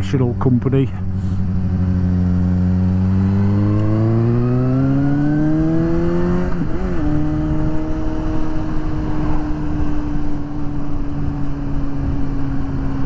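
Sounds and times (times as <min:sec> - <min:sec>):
motorcycle engine accelerating: 0:01.0 - 0:13.0.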